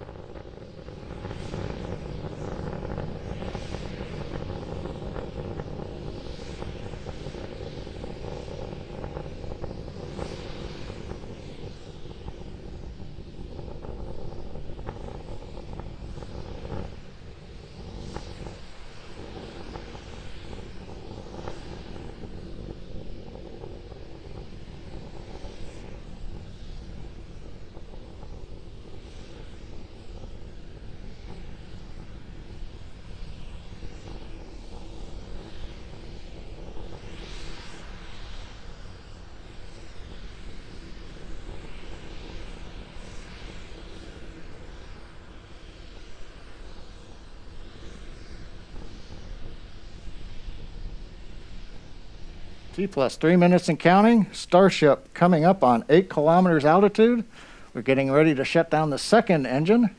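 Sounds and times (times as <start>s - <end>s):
rocket engine rumble with crackle: 0.0s - 59.9s.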